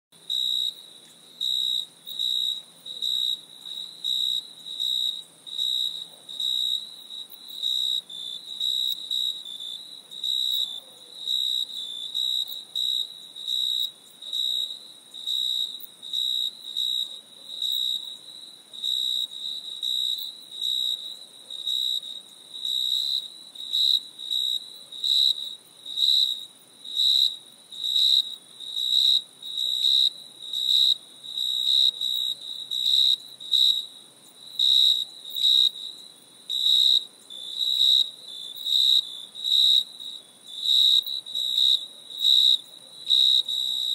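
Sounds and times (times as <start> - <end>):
cricket chirping: 0.2 - 43.9.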